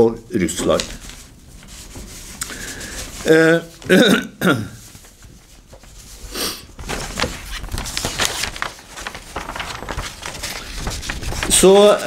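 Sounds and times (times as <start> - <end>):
paper rustling: 0.4 - 12.0.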